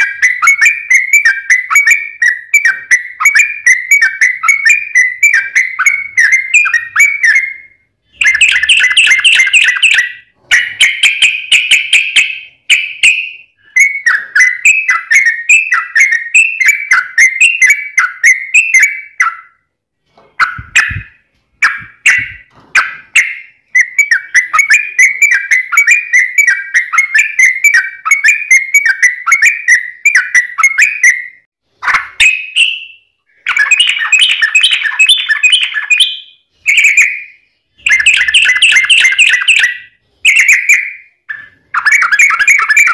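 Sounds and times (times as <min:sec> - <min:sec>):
bird bubbly chattering song: 0:00.0 - 0:19.4, 0:20.4 - 0:31.2, 0:31.8 - 0:42.9.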